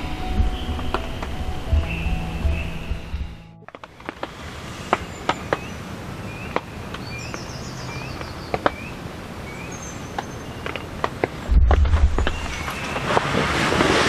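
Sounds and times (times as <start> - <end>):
bird chirping: 0.0 - 4.1, 4.8 - 13.2
background hiss: 0.0 - 14.0.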